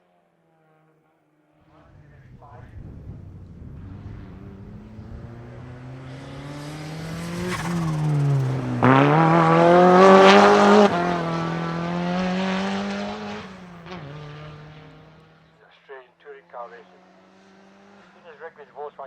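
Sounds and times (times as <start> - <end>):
car engine accelerating: 1.7 - 15.6, 16.8 - 18.3.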